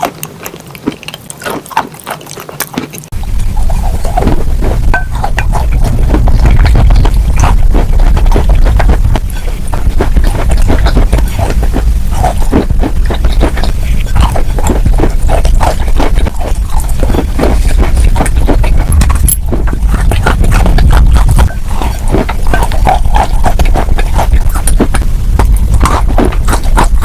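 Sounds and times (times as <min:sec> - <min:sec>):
crisp crunching crackles: 0:00.0 - 0:27.0
steady low rumble: 0:03.1 - 0:27.0.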